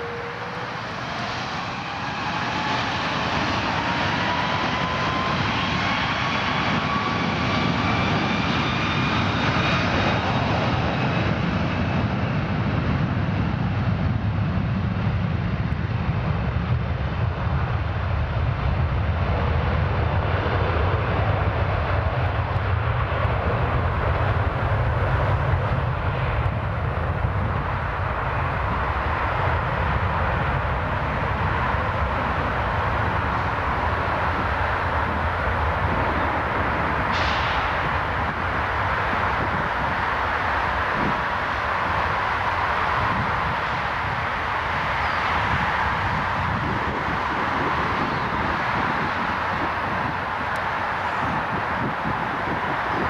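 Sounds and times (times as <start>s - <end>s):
deep jet engine rumble: 0.0s - 53.0s
jet engines whining: 0.0s - 53.0s.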